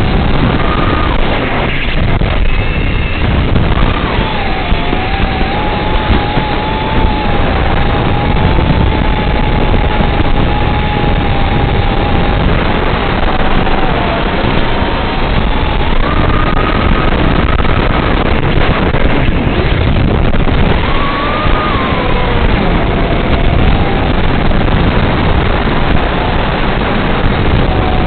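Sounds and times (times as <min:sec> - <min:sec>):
drone motors buzzing: 0:00.0 - 0:28.0
wind noise: 0:00.0 - 0:28.0.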